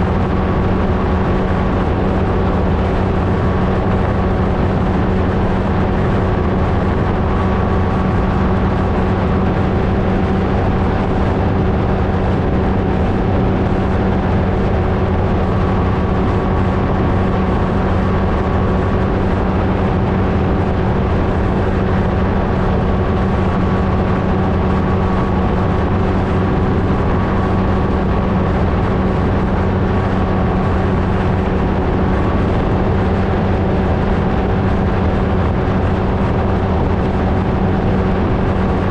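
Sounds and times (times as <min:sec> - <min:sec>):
ultralight engine and propeller drone: 0:00.0 - 0:38.9.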